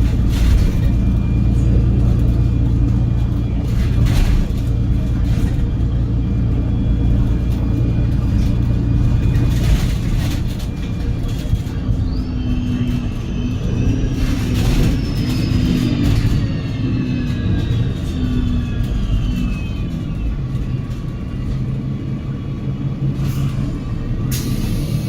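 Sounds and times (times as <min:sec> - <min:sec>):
rattly noises: 0:00.0 - 0:21.7
bus engine low drone: 0:00.0 - 0:25.0.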